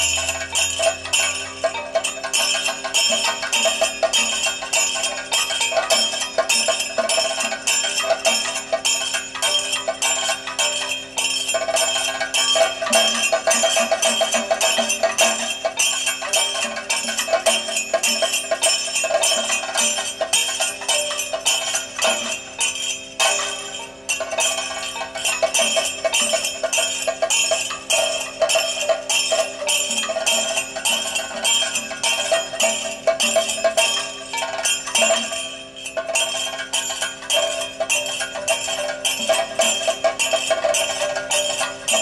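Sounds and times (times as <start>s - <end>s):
metallic cymbals and gong ringing: 0.0s - 42.0s
rapid drumming: 0.0s - 42.0s.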